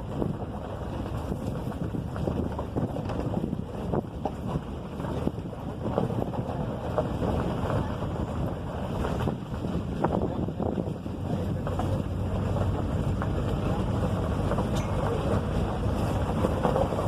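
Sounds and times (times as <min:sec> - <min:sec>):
low rumbling noise: 0:00.0 - 0:17.0
wind buffeting microphone: 0:00.0 - 0:17.0.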